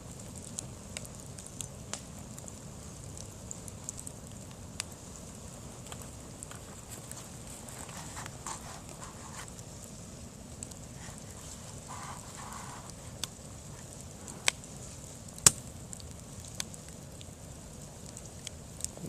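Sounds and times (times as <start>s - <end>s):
burning bamboo snapping: 0.0s - 19.0s
campfire crackling: 0.0s - 19.0s.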